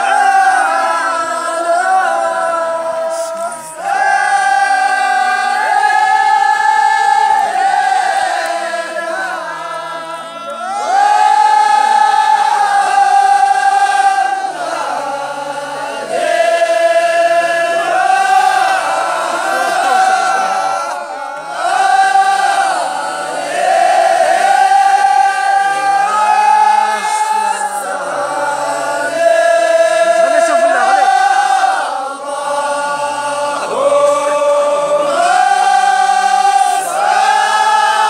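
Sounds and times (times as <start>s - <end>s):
men chanting in unison: 0.0s - 38.0s.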